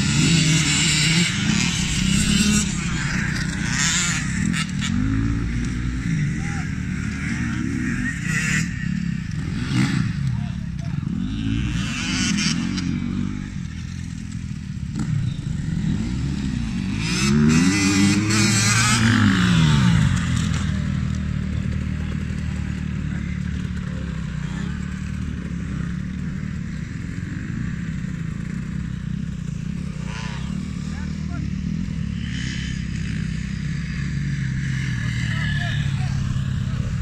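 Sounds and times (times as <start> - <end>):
dirt bike engines revving: 0.0 - 37.0
distant engines running steadily: 0.0 - 37.0.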